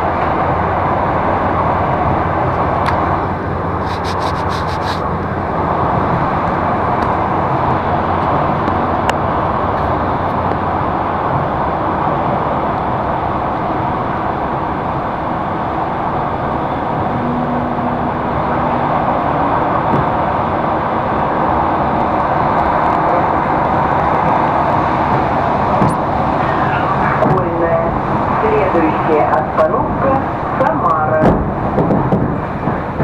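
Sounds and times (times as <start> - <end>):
train rumble and wheel noise: 0.0 - 33.0.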